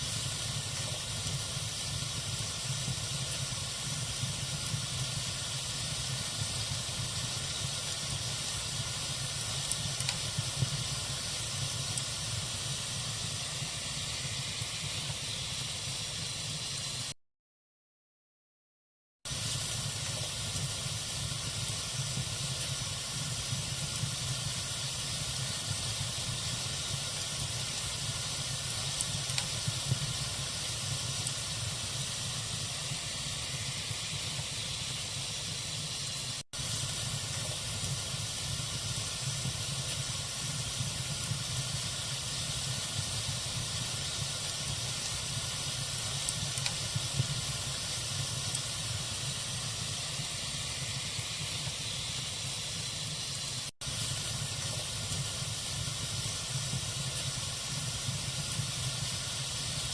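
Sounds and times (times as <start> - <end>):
log fire hissing and crackling: 0.0 - 17.2, 19.3 - 59.9.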